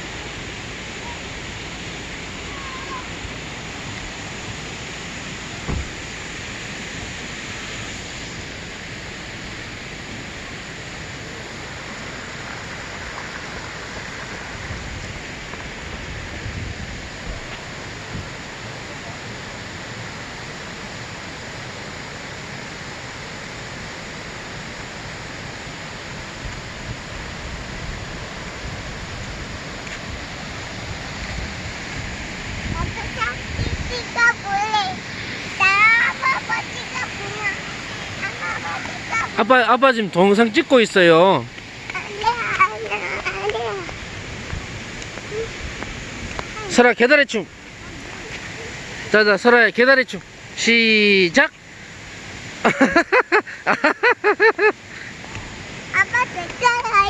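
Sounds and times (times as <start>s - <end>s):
water hissing: 0.0s - 57.0s.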